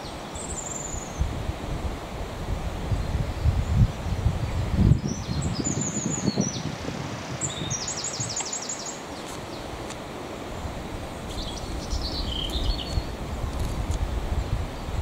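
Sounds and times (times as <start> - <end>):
songbird singing: 0.0 - 1.5, 2.8 - 15.0
wind rumble on microphone: 0.0 - 15.0.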